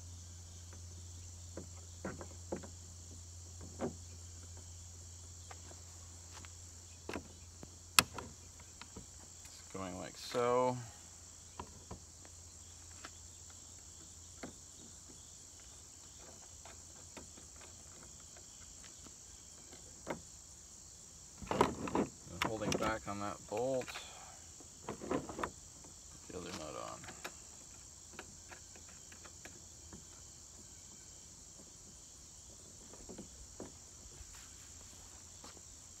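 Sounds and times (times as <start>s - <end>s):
cricket chorus: 0.0s - 36.0s.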